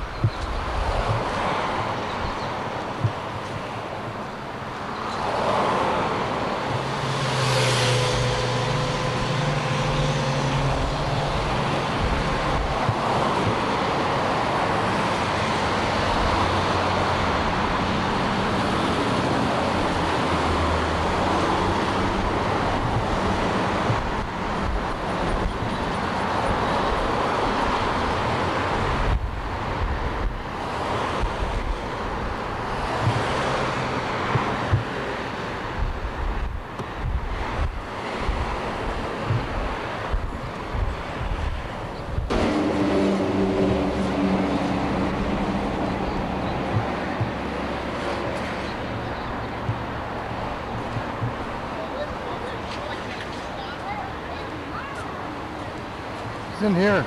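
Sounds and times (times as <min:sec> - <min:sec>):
road traffic rumble: 0:00.0 - 0:57.0
wind buffeting microphone: 0:00.0 - 0:57.0.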